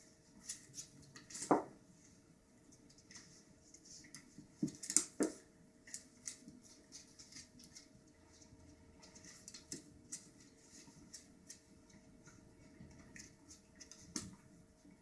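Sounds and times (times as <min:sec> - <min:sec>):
paws and claws ticking on floor: 0:02.6 - 0:14.9.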